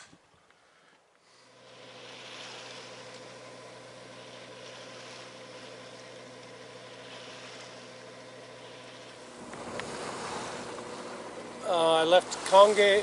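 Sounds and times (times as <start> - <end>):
boat diesel engine humming: 0.0 - 13.0
water hissing past hull: 0.7 - 13.0.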